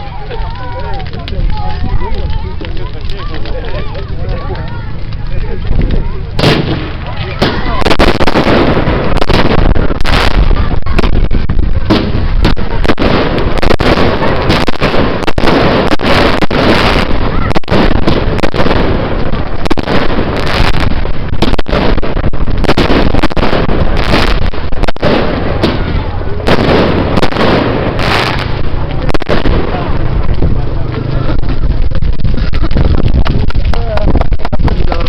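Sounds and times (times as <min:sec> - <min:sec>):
bonfire crackling and popping: 0:00.0 - 0:35.0
crowd voices: 0:00.0 - 0:35.0.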